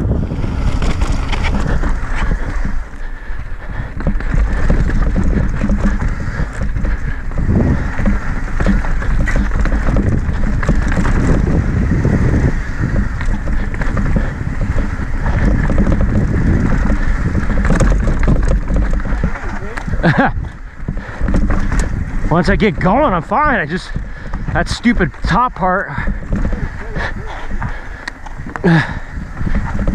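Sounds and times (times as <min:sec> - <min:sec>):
bike knocking and rattling: 0:00.0 - 0:29.9
wind noise on microphone: 0:00.0 - 0:29.9
tyres crunching over dirt and rock: 0:00.5 - 0:29.9.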